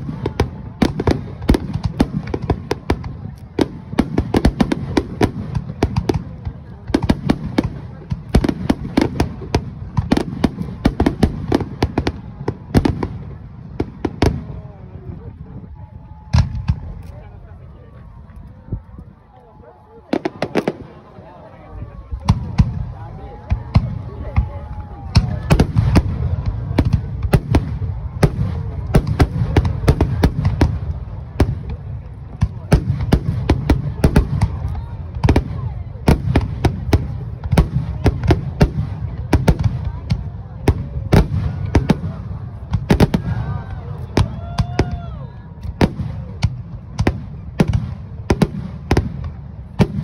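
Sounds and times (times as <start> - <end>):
fireworks bursting: 0.0 - 19.4, 20.0 - 50.0.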